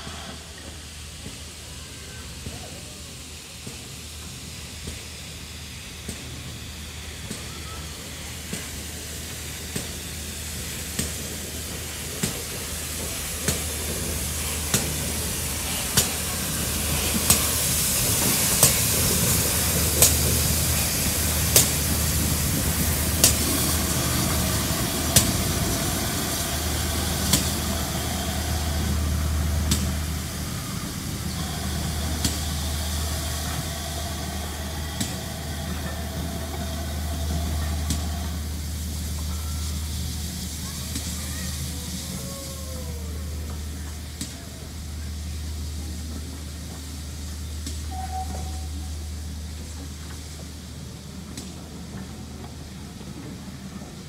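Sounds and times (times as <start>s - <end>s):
steam train hissing: 0.0s - 54.0s
train wheels clicking over rail joints: 0.0s - 54.0s.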